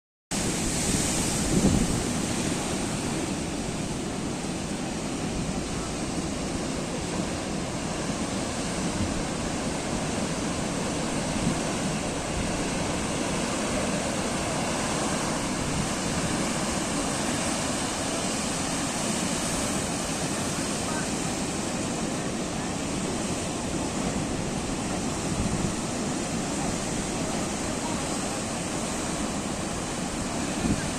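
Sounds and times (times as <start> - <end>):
waves breaking on shore: 0.3 - 30.9.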